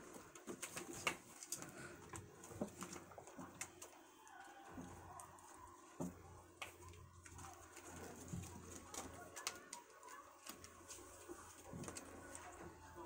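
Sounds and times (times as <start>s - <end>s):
kittens tapping and scuffling: 0.0s - 13.0s.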